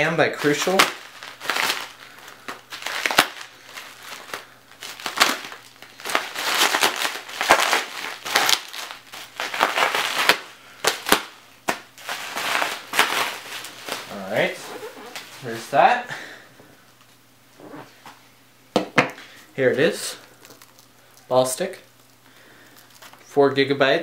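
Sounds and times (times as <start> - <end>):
bubble wrap crinkling and crackling: 0.2 - 15.8, 19.6 - 23.4.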